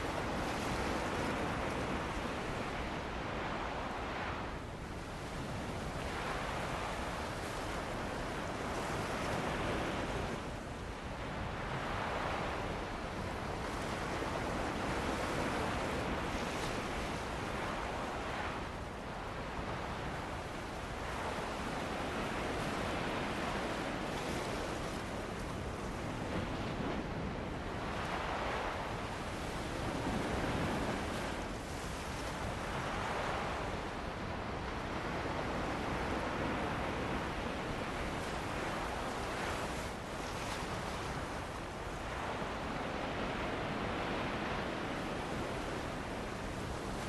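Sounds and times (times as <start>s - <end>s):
steady wind: 0.0s - 47.0s.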